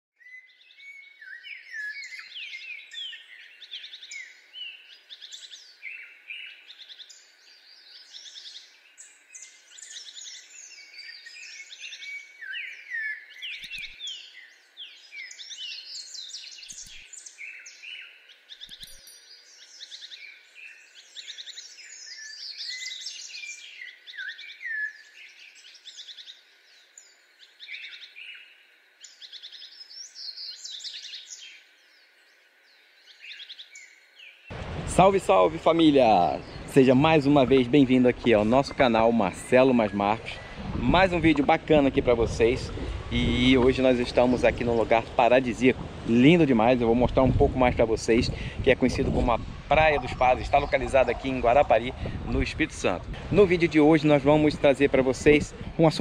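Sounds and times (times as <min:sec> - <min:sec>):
birds chirping and singing: 0:00.2 - 0:34.6, 0:35.2 - 0:56.0.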